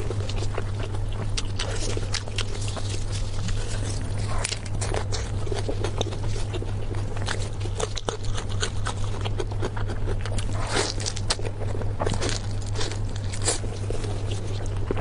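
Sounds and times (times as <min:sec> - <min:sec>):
chewing crunches: 0:00.0 - 0:15.0
steady low hum: 0:00.0 - 0:15.0.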